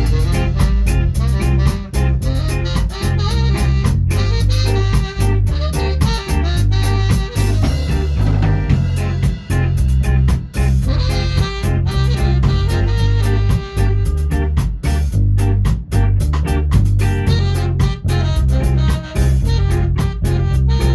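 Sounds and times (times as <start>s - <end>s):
ska band playing live: 0.0s - 20.9s.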